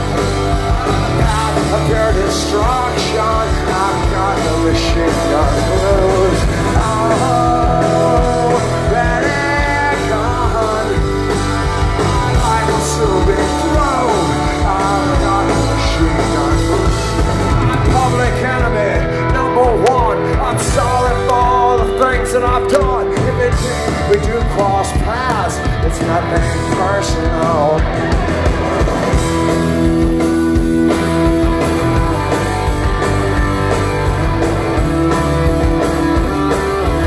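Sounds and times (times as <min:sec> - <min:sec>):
bass guitar: 0:00.0 - 0:37.0
distorted electric guitars: 0:00.0 - 0:37.0
drums: 0:00.0 - 0:37.0.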